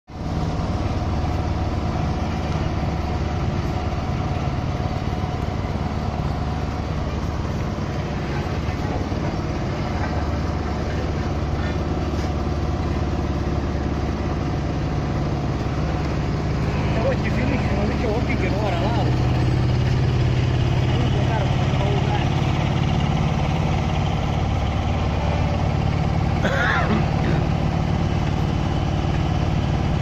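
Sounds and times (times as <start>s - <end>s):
heavy diesel engines humming: 0.0s - 30.0s.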